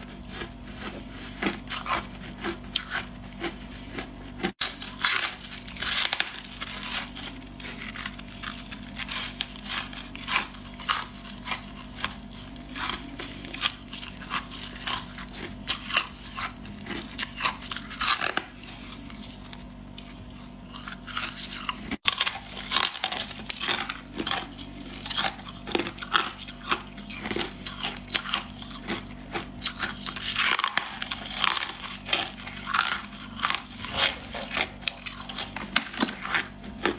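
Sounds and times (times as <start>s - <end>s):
frost being chewed: 0.0s - 36.9s.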